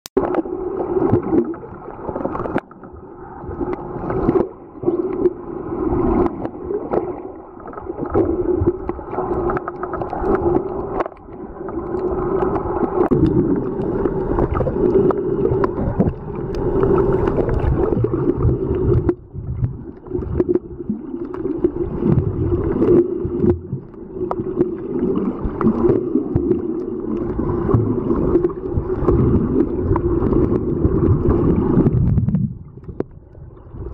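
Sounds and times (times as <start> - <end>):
underwater water gurgling: 0.2 - 33.9.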